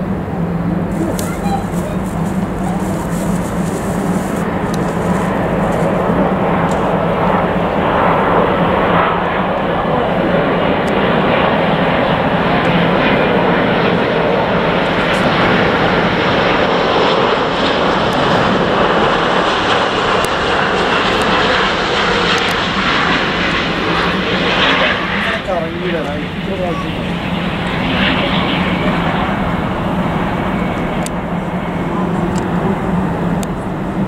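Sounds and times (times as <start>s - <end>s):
jet airliner passing low: 0.0s - 34.0s.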